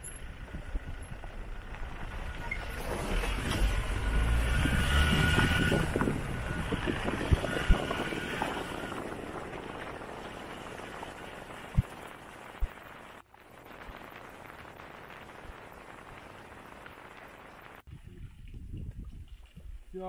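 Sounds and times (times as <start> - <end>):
wind and tyre noise: 0.0 - 20.0.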